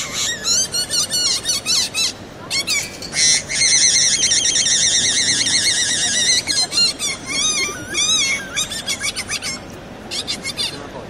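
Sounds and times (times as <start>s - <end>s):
high-pitched bird-like whistling: 0.0s - 10.8s.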